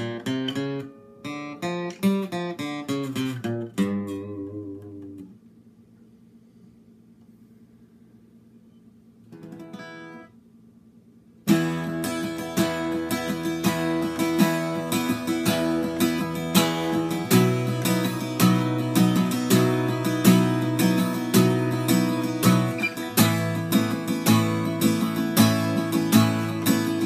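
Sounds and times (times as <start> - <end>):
acoustic guitar strumming chords: 0.0 - 5.4, 9.3 - 10.4, 11.4 - 27.0.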